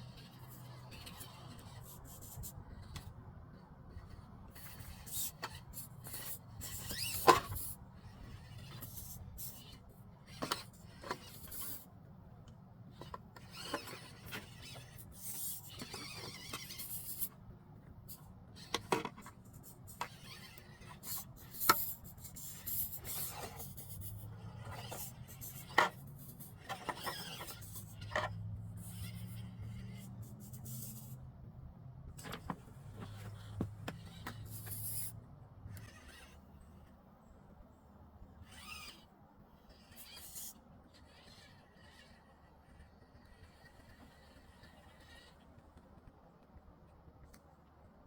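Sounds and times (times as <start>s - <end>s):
toy car scraping on rock: 0.0s - 12.0s, 12.8s - 17.4s, 18.0s - 31.2s, 32.1s - 37.0s, 38.4s - 45.6s.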